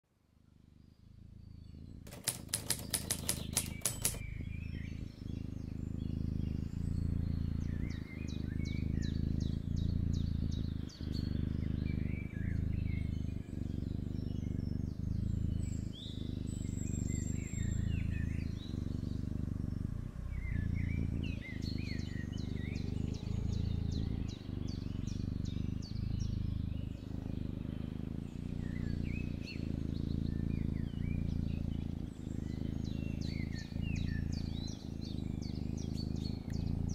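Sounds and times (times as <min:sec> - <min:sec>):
birds chirping faintly: 0:00.4 - 0:36.9
kitten purring: 0:00.7 - 0:36.9.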